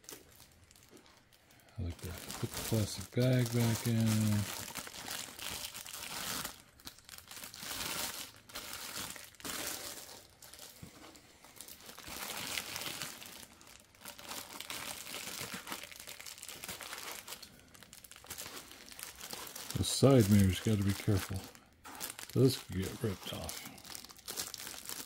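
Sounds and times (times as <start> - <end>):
plastic bag crinkling: 0.0 - 25.0.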